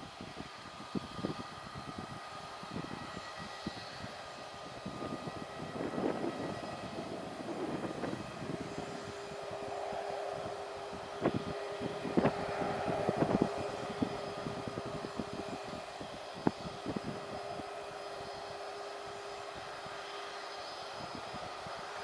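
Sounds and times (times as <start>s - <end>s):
aircraft engine hum: 0.0s - 22.0s.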